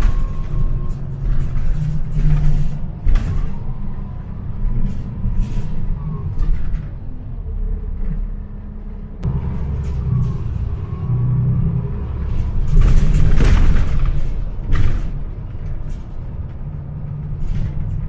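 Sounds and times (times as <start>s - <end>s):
bus engine rumbling: 0.0s - 18.0s.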